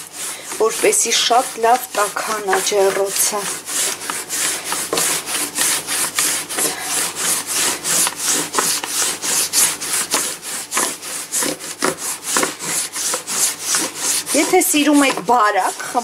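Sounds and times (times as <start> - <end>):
rolling pin rubbing over dough: 0.0 - 16.0.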